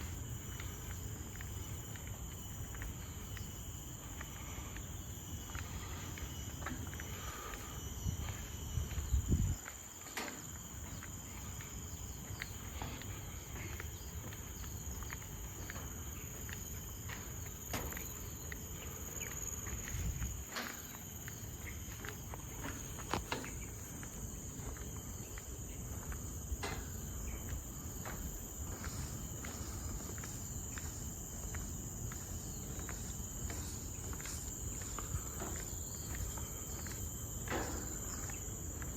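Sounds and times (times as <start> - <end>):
footsteps on a trail: 0.0 - 38.9
insects trilling: 0.0 - 38.9.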